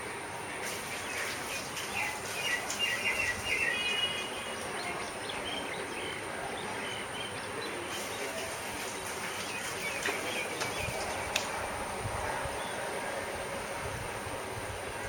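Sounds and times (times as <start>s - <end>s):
outdoor background noise: 0.0s - 15.0s
birds chirping: 0.4s - 13.3s.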